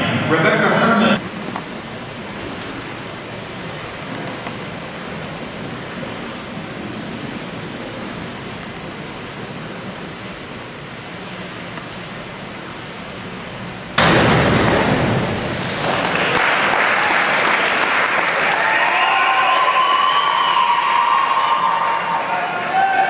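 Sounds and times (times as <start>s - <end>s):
indoor room noise hiss: 0.0s - 23.0s.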